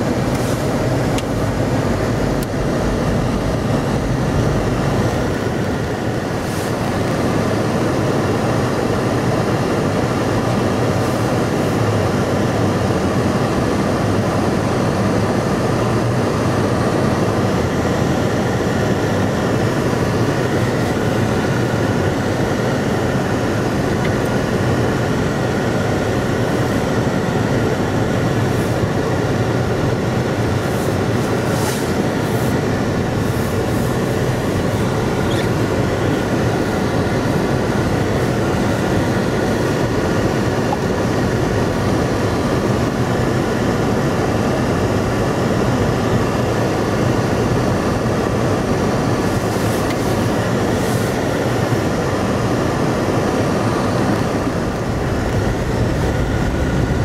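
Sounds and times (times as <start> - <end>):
car driving on snowy road: 0.0 - 57.0.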